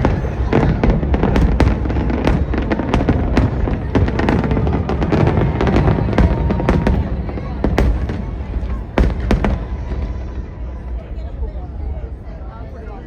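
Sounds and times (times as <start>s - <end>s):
low rumble of booms: 0.0s - 11.3s
fireworks bangs and crackles: 0.0s - 12.5s.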